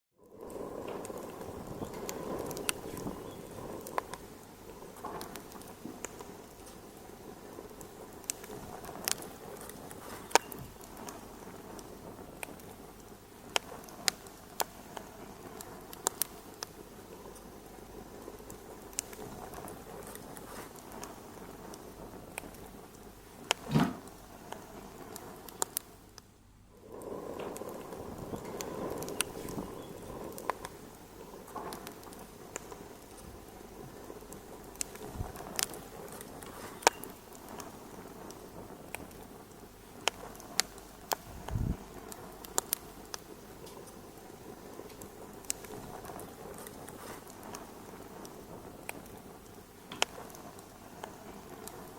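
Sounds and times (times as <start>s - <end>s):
soft steady hiss: 0.2s - 51.9s
wood fire crackling: 0.2s - 51.9s.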